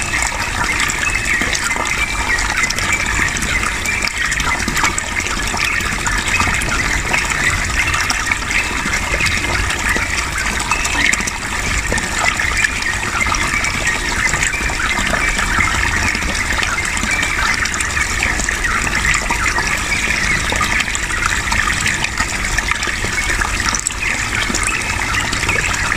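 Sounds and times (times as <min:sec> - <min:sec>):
water splashing and gurgling: 0:00.0 - 0:25.9.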